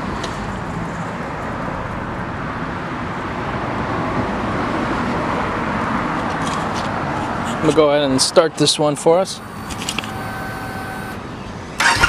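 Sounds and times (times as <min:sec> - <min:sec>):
steady outdoor background noise: 0:00.0 - 0:12.0.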